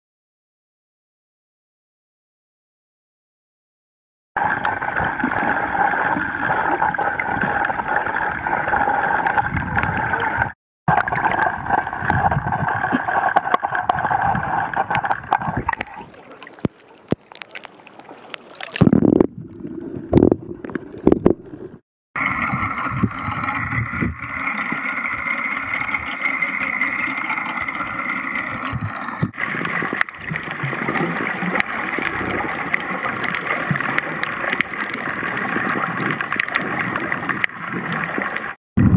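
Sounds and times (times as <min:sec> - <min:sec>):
underwater rushing and gurgling: 0:04.4 - 0:38.9
water sloshing: 0:04.5 - 0:38.6.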